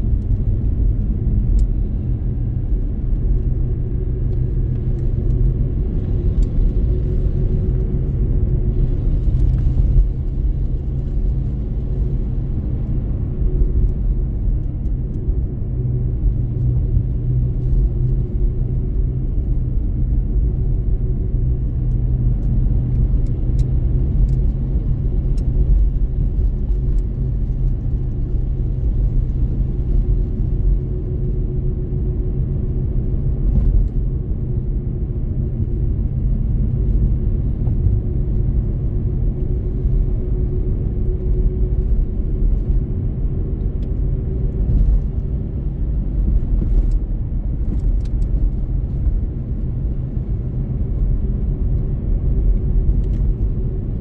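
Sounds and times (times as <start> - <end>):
car driving on a wet road: 0.0 - 54.0.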